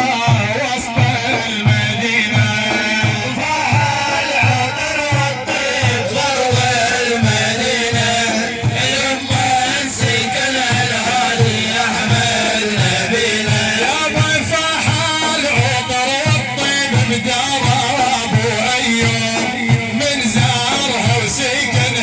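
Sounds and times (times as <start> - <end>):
low drum beat: 0.0 - 22.0.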